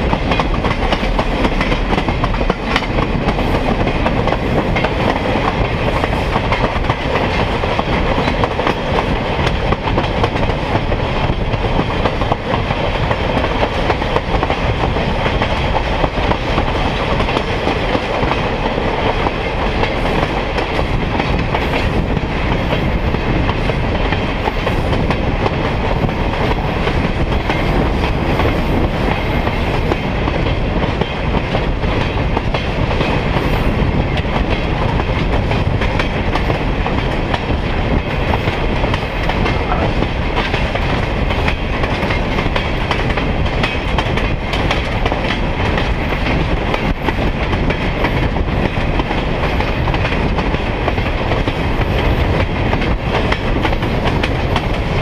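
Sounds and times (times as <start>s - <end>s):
train car rumbling on track: 0.0s - 55.0s.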